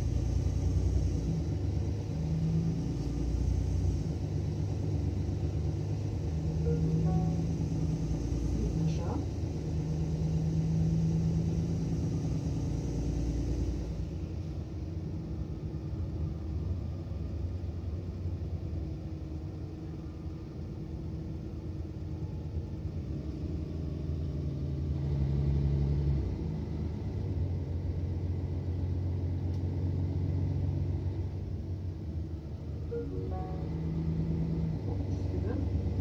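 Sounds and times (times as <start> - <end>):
bus diesel engine from inside: 0.0 - 36.0.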